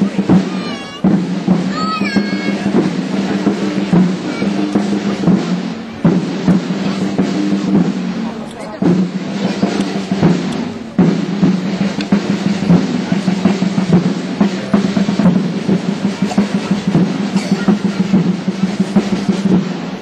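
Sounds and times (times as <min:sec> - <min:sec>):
drums playing a roll: 0:00.0 - 0:20.0.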